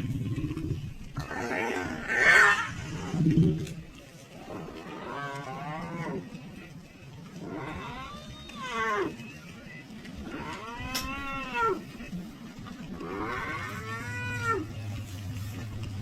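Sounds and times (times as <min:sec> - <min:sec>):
large animal mooing: 0:00.0 - 0:16.0.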